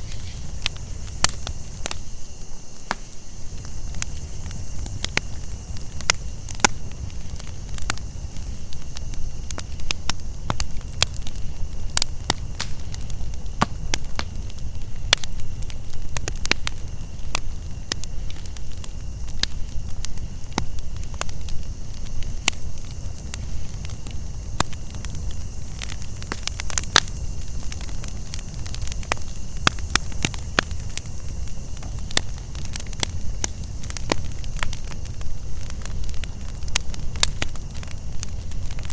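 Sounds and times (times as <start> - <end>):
campfire crackling and popping: 0.0 - 38.9
crickets and cicadas chirping: 0.0 - 38.9.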